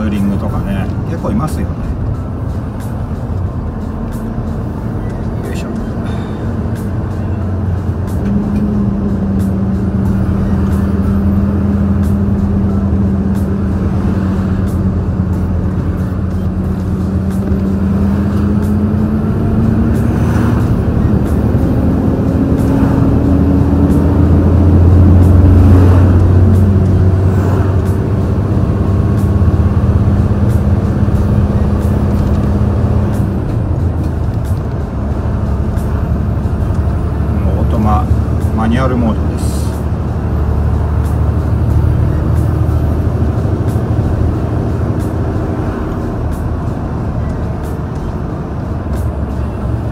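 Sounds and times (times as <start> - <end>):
truck diesel engine pulling hard: 0.0 - 49.9.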